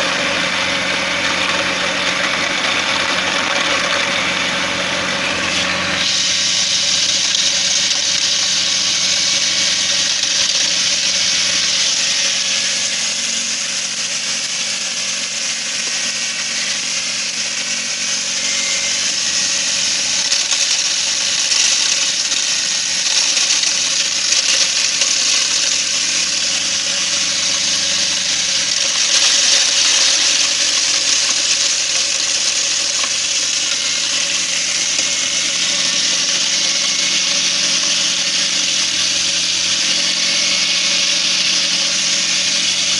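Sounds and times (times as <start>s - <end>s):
grain grinder rushing hiss: 0.0s - 42.9s.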